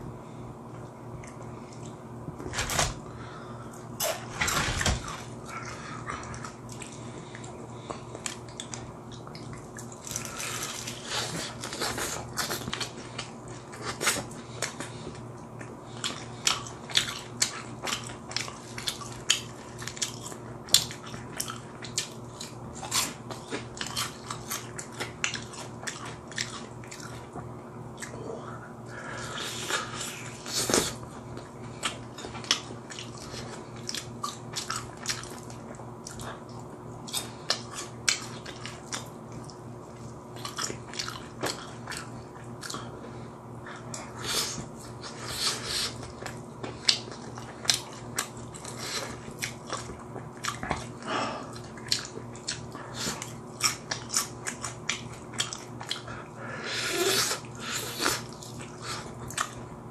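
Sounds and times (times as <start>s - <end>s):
man chewing fried chicken: 0.2s - 59.9s.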